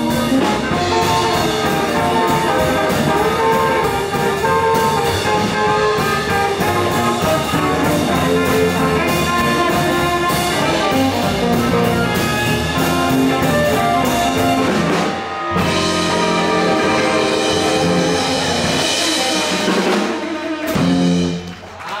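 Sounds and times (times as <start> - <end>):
harmonica: 0.0 - 20.8
double bass: 0.0 - 21.6
electric guitar: 0.0 - 21.6
drum kit: 0.0 - 22.0.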